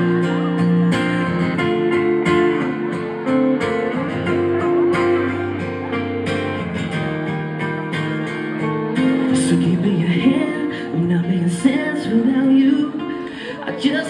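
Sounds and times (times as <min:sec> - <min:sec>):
strummed guitar chords: 0:00.0 - 0:14.0.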